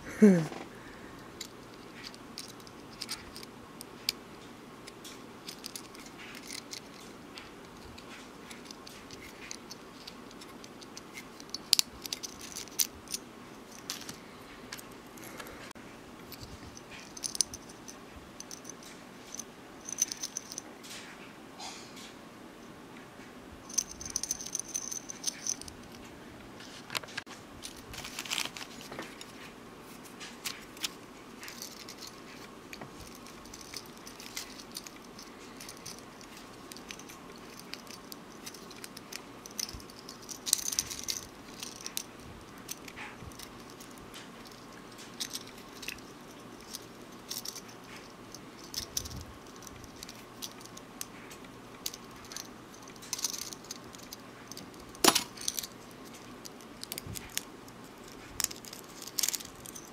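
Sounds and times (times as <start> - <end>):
metal rings and caps clinking: 1.4 - 4.2, 4.9 - 15.4, 16.3 - 20.7, 23.7 - 26.1, 27.6 - 29.5, 30.2 - 59.9.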